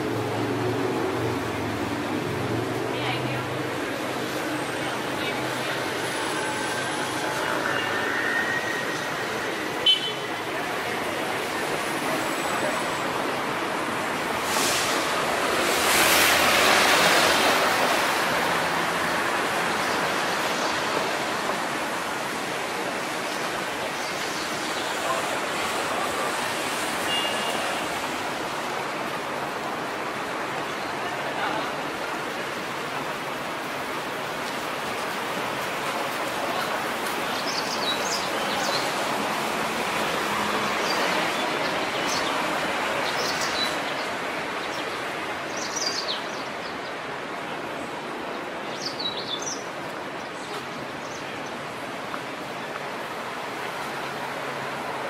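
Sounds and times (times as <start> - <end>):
traffic hiss: 0.0 - 55.0.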